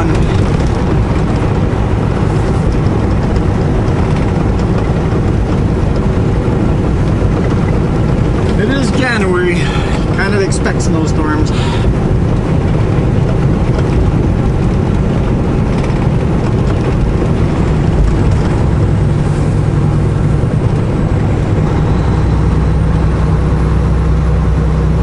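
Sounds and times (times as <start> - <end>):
truck diesel engine droning: 0.0 - 25.0.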